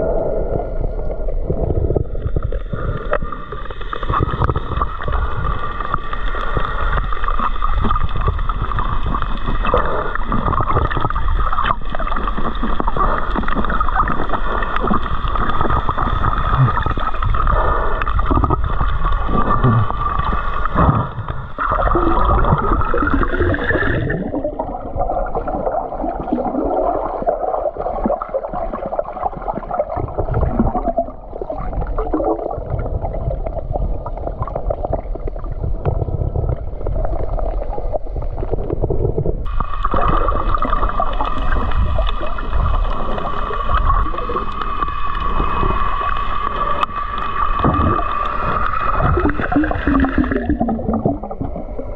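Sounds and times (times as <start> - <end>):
underwater gurgling and bubbling: 0.0 - 51.9.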